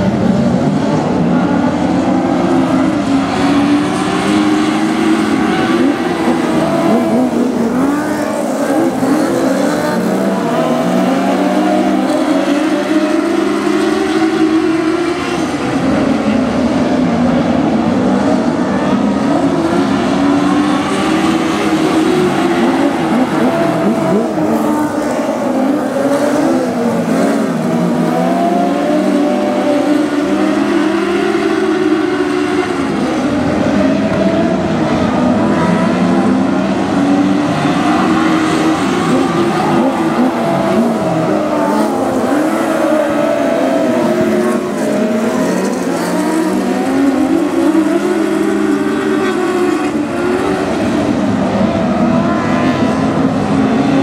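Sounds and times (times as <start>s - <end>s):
racing car engines: 0.0s - 54.0s.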